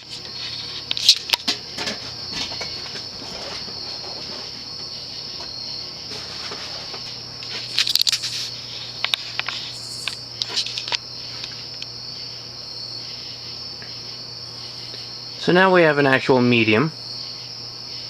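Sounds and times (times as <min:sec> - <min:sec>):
ceiling fan humming and whining: 0:00.0 - 0:18.0.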